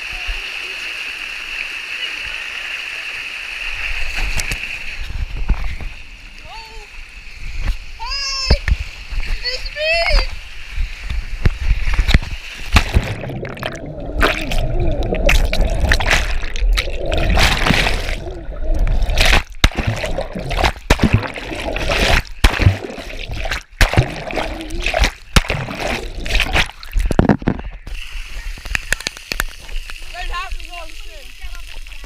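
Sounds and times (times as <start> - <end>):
water rushing and splashing: 0.0 - 32.0.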